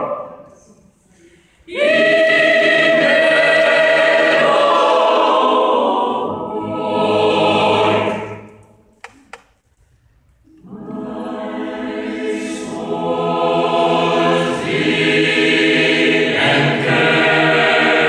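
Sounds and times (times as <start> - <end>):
choir singing a cappella: 0.0 - 0.7, 1.5 - 8.9, 10.6 - 18.0.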